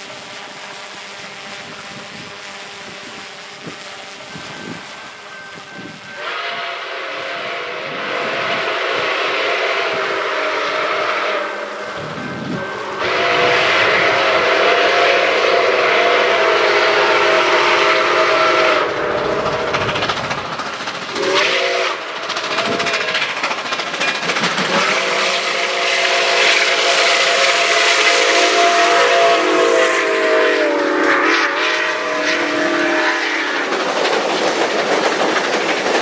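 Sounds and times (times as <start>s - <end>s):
steam whistle blowing: 0.0s - 20.0s, 21.1s - 23.3s, 24.7s - 33.8s
steady steam hiss: 0.0s - 36.0s.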